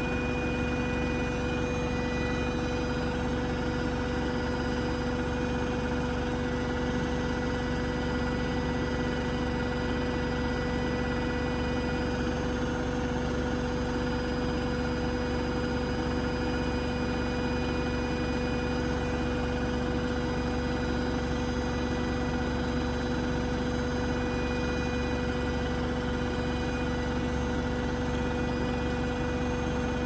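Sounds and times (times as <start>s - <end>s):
washing machine spinning: 0.0s - 30.0s.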